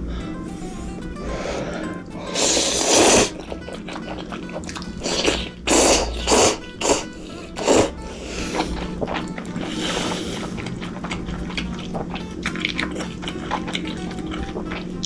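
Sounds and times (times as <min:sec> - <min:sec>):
background music: 0:00.0 - 0:15.0
hissing noise bursts: 0:00.0 - 0:15.0.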